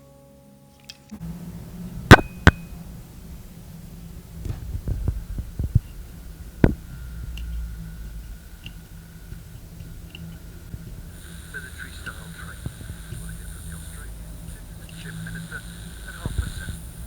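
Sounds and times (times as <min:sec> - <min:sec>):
radio speaker low hum: 0:01.2 - 0:17.0.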